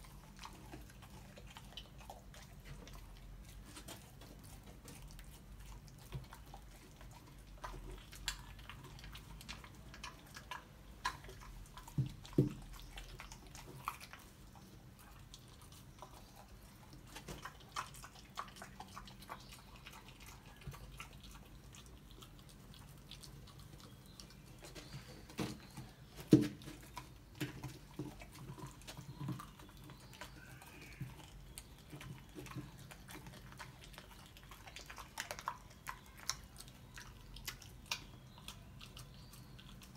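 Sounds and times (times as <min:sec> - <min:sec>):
puppy chewing bones: 0:00.0 - 0:39.9.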